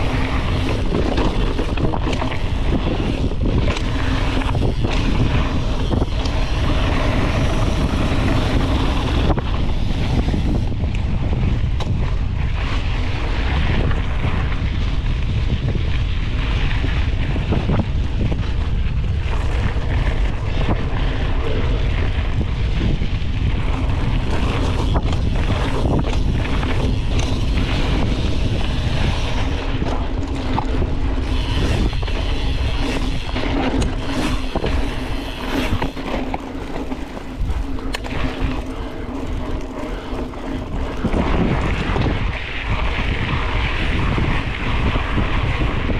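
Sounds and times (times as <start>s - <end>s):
bike knocks and rattles: 0.0s - 45.9s
bike tyre noise: 0.0s - 45.9s
wind buffeting microphone: 0.0s - 45.9s.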